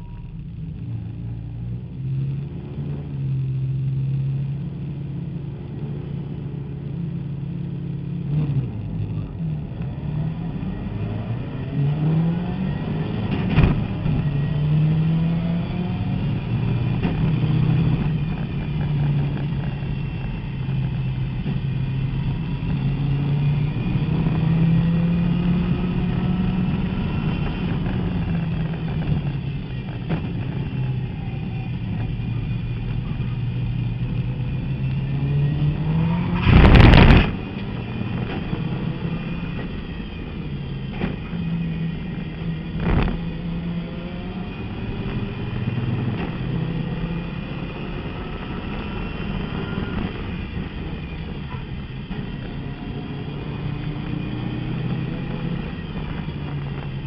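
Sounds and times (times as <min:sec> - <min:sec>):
turbocharged engine accelerating: 0:00.0 - 0:57.0.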